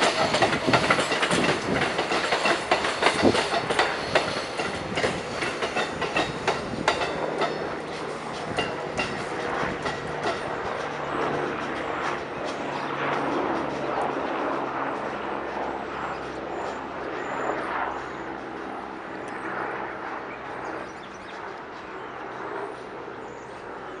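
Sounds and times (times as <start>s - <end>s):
train wheels rumbling on rails: 0.0s - 19.4s.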